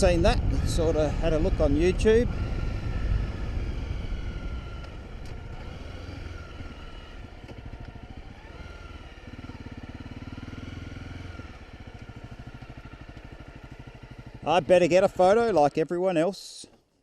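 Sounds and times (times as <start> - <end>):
motorcycle engine at low revs: 0.0 - 15.8.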